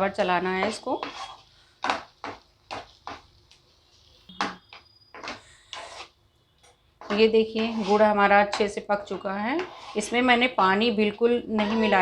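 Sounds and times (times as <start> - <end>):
utensil scraping in a pan: 0.0 - 4.1, 5.2 - 6.2, 7.0 - 12.0.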